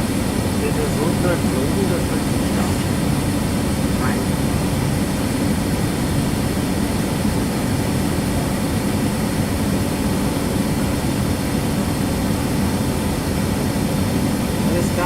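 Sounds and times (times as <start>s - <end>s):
airliner engines taxiing: 0.0s - 15.0s.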